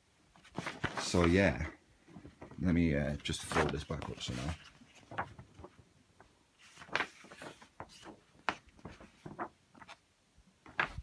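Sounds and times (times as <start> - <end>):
paper and cardboard rustling: 0.3 - 11.0.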